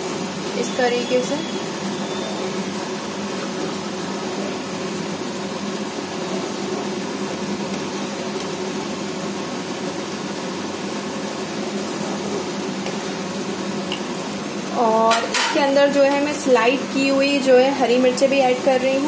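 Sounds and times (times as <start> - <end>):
fan hum and hiss: 0.0 - 19.0
food sizzling in a pan: 0.0 - 19.0.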